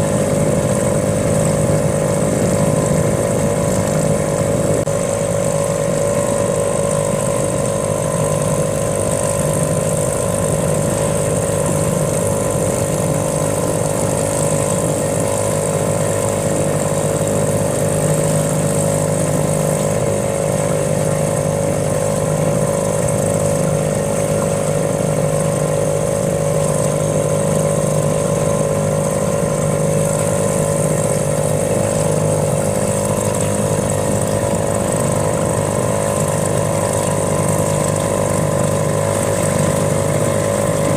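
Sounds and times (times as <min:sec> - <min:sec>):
boat motor droning: 0:00.0 - 0:40.9.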